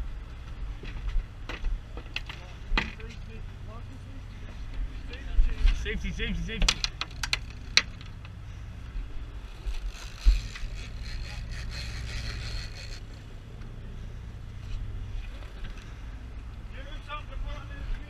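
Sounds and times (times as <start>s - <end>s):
wind: 0.0s - 18.0s
boat engine running: 2.5s - 18.0s.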